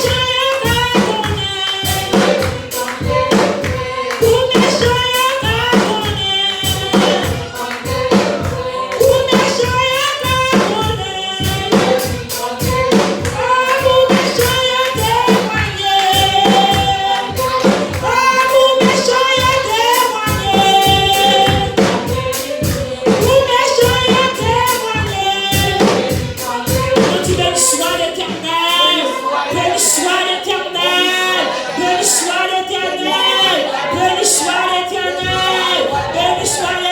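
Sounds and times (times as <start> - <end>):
group singing worship song: 0.0 - 36.9
steady percussion beat: 0.0 - 36.9.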